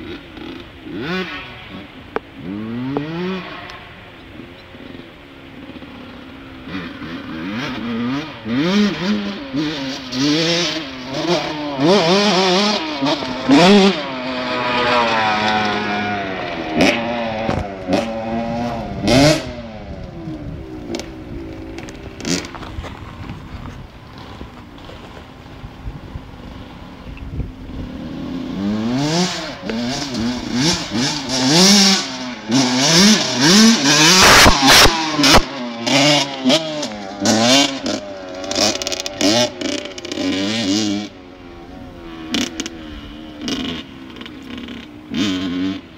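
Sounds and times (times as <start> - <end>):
motocross engines revving: 0.0 - 45.9.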